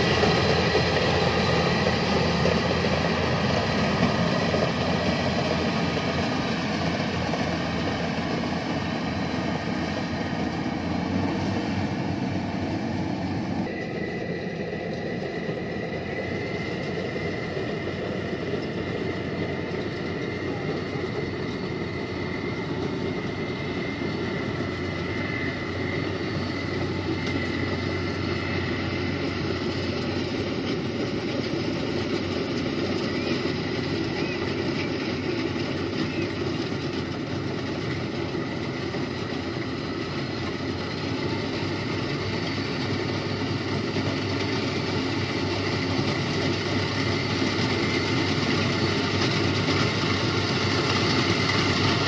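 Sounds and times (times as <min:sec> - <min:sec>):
combine harvester running: 0:00.0 - 0:52.0
thin high whine: 0:00.0 - 0:52.0.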